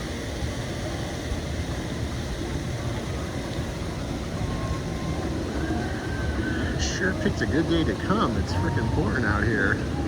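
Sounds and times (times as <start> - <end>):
low uneven rumble: 0.0 - 10.0.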